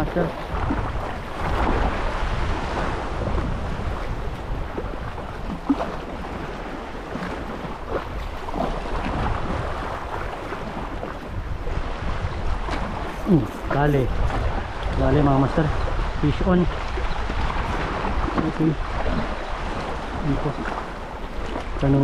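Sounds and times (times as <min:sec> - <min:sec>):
small waves washing on rocks: 0:00.0 - 0:22.0
wind buffeting microphone: 0:00.0 - 0:22.0.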